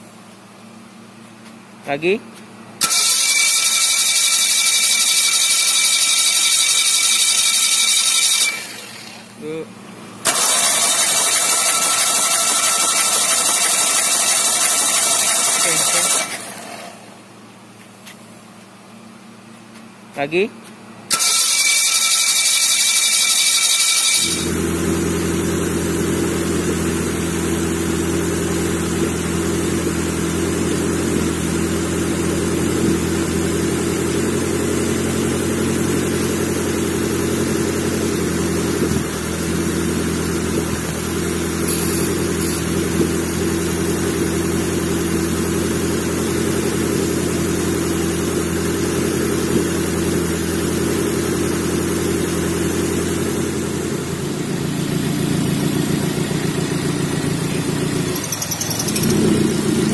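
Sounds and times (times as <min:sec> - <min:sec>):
car engine running steadily: 0:00.0 - 0:21.7, 0:23.9 - 0:59.9.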